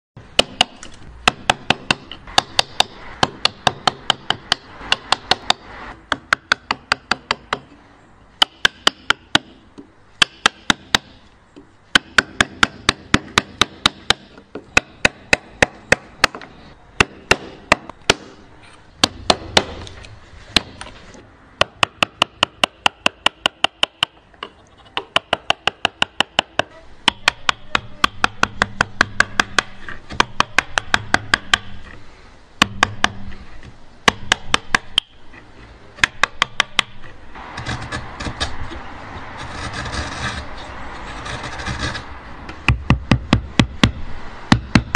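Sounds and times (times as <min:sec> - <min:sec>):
mallet striking chisel: 0:00.4 - 0:07.8, 0:08.4 - 0:18.4, 0:19.0 - 0:20.9, 0:21.6 - 0:32.0, 0:32.6 - 0:33.4, 0:34.0 - 0:35.2, 0:36.0 - 0:38.5, 0:42.5 - 0:44.9.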